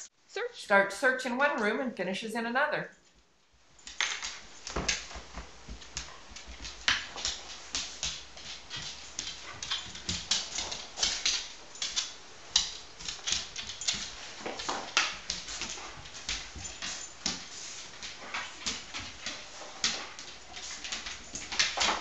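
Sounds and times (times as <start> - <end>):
dog claws clicking on hard floor: 3.8 - 22.0.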